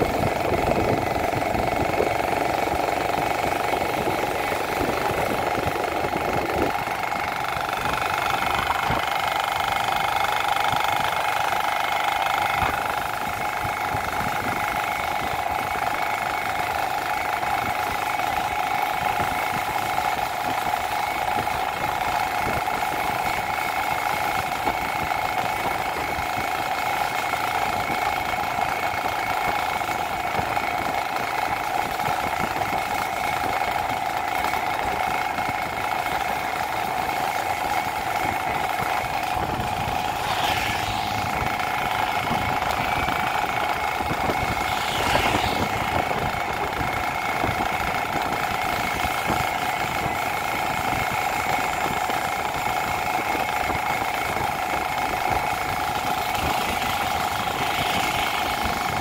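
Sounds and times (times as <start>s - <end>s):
small motorcycle engine running: 0.0s - 59.0s.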